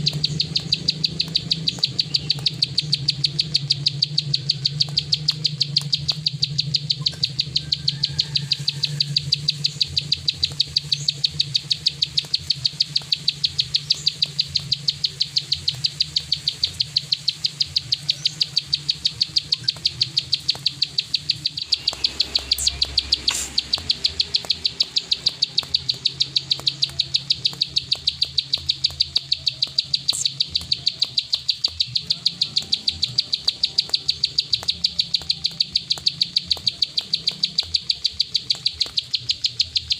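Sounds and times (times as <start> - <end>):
bird clicking call: 0.0 - 39.9.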